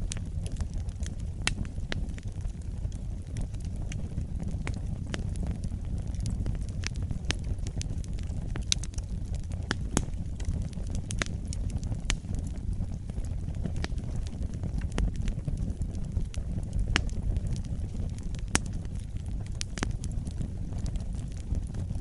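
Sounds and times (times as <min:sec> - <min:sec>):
fireplace fire crackling: 0:00.0 - 0:22.0
low rumble of burning: 0:00.0 - 0:22.0.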